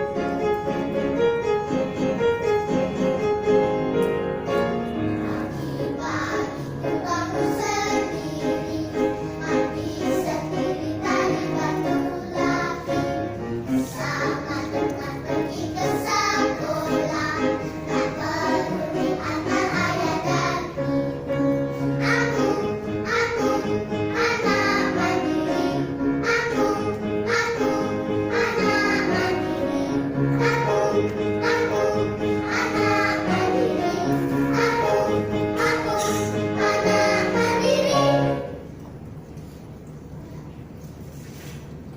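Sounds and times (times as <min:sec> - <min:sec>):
children's choir singing: 0:04.0 - 0:38.8.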